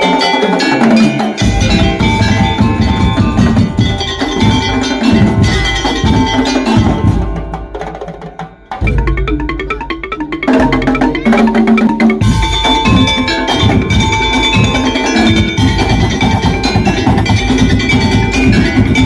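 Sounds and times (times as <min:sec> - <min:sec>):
drums: 0:00.0 - 0:19.0
percussion ensemble playing: 0:00.0 - 0:19.0
tuned metal percussion: 0:00.0 - 0:19.0.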